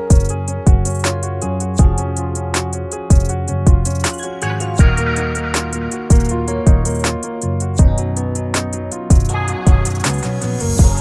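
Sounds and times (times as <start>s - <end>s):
instrumental beat music: 0.0s - 11.0s.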